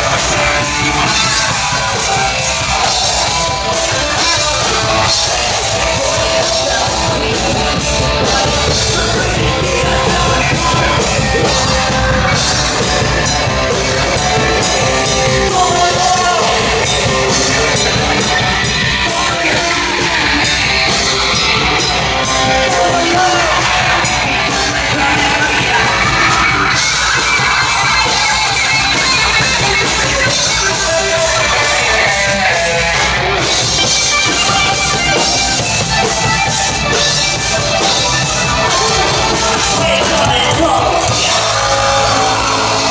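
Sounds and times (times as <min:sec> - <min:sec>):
drums: 0:00.0 - 0:42.9
electric guitars: 0:00.0 - 0:42.9
shouted vocals: 0:00.0 - 0:42.9.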